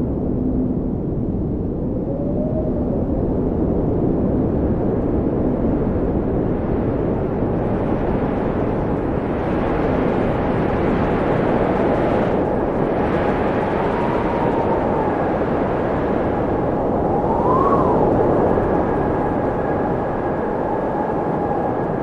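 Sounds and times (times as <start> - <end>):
faint wind whistling: 0.0 - 22.0
wind blowing: 0.0 - 22.0.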